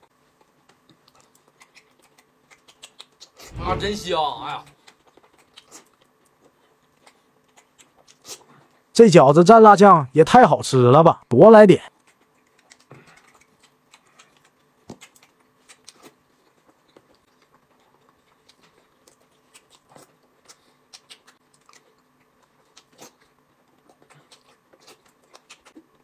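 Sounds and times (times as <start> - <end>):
man chewing: 0.0 - 3.6, 4.7 - 8.9, 11.9 - 26.0.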